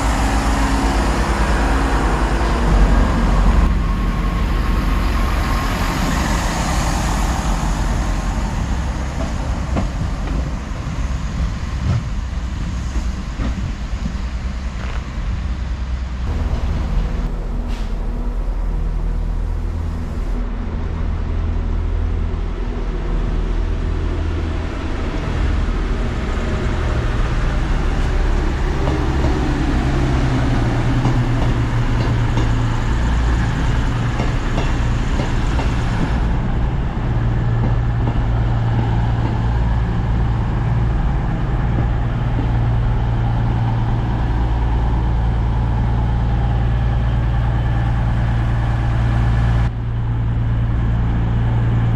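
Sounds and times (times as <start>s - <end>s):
diesel train engine droning: 0.0s - 51.9s.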